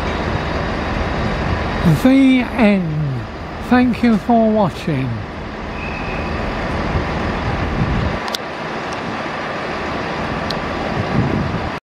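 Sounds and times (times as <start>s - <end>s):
diesel train engine rumbling: 0.0s - 11.8s.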